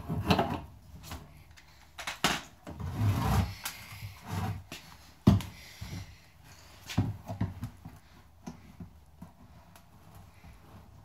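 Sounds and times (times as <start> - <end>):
knocks and scrapes of handling: 0.0 - 11.0.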